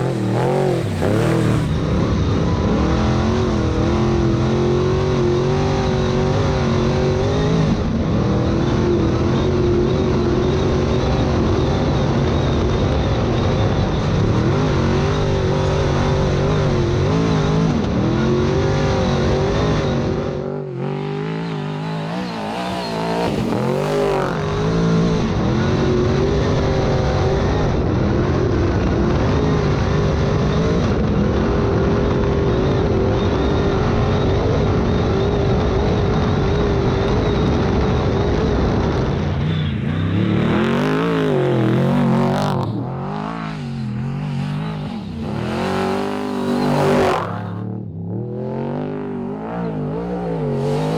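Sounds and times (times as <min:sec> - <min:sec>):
race vehicle engine revving: 0:00.0 - 0:33.0, 0:33.6 - 0:50.9.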